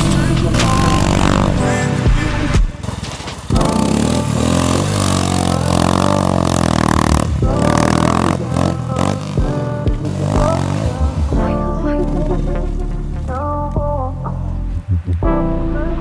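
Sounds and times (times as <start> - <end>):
motorcycle engine revving: 0.0 - 14.2
background music: 0.0 - 16.0.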